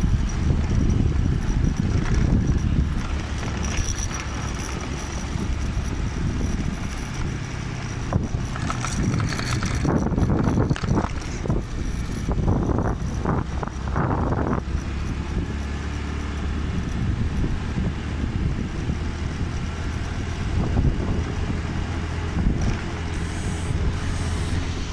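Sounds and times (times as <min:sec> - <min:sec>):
motorbike engine rumble: 0:00.0 - 0:24.9
wind buffeting microphone: 0:00.0 - 0:24.9.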